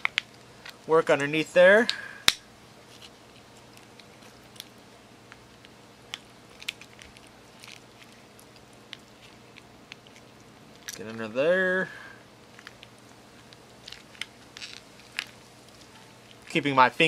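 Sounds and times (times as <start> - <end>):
lobster shell crackling: 0.0 - 16.8.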